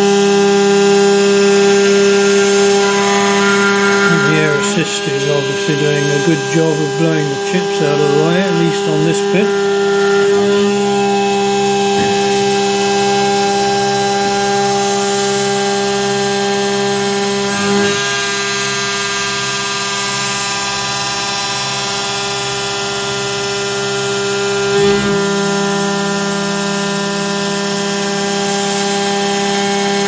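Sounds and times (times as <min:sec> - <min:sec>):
cnc spindle whine: 0:00.0 - 0:30.0.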